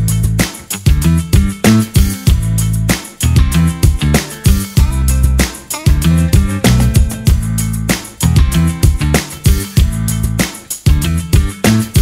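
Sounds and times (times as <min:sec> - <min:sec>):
guitar tune with steady beat: 0:00.0 - 0:12.0.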